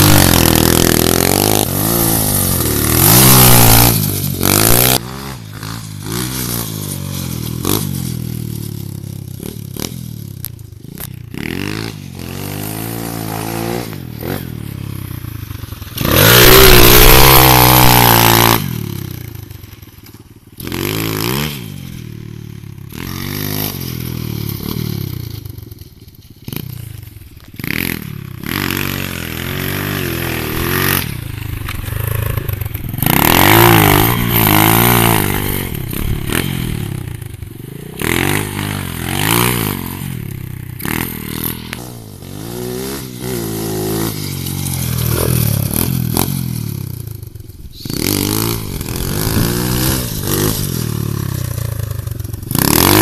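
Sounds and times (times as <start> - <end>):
pit bike engine revving: 0.0 - 19.8, 20.5 - 53.0.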